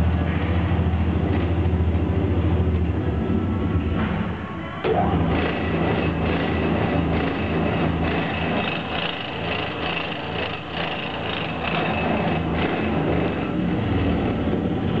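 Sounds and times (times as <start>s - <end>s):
grinding machine whining: 0.0s - 15.0s.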